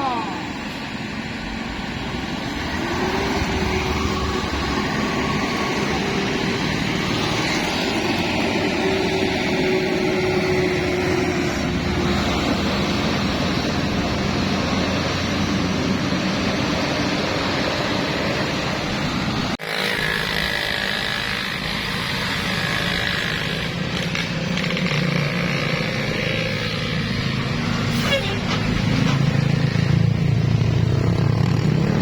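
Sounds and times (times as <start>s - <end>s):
bus engines running: 0.0s - 32.0s
road traffic noise: 0.0s - 32.0s.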